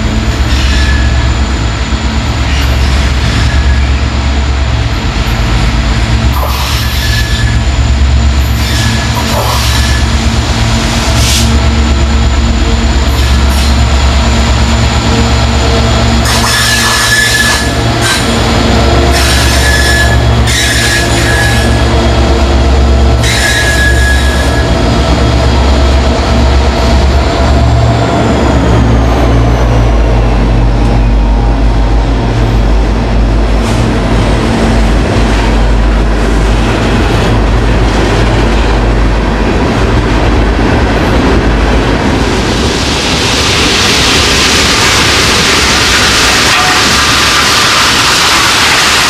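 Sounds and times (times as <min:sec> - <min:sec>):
diesel locomotive engines: 0:00.0 - 0:49.0.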